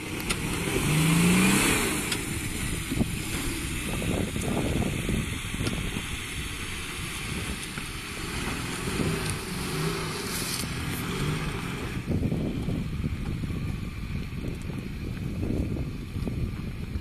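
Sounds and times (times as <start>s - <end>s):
truck engine climbing off-road: 0.0s - 17.0s.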